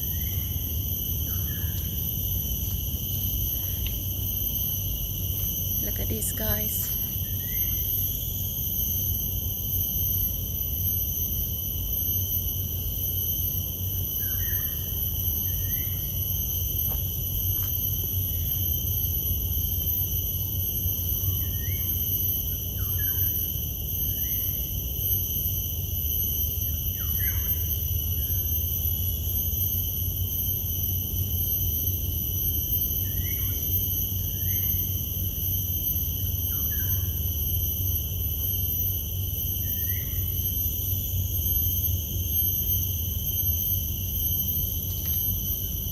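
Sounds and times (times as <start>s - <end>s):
high insect drone: 0.0s - 45.9s.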